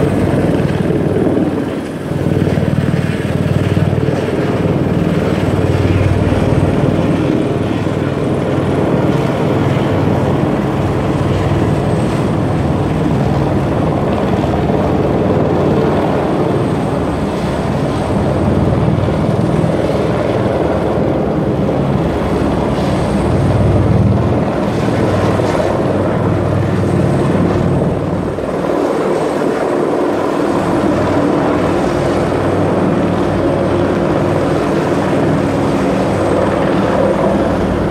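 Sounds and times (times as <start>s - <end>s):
helicopter flying overhead: 0.0s - 37.9s.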